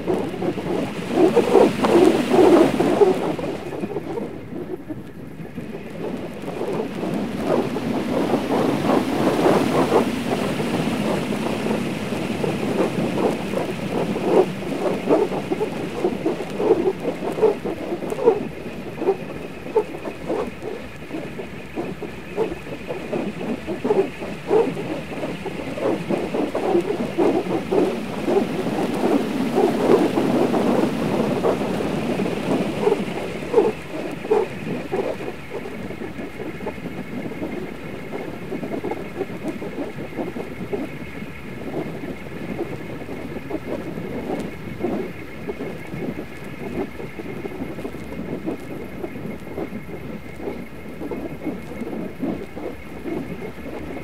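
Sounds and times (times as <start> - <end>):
elastic bands whirling and whooshing: 0.0 - 54.0.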